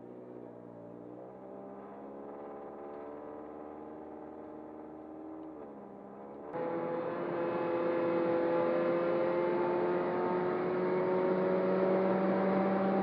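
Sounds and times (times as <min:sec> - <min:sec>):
car engine accelerating: 0:01.7 - 0:13.0.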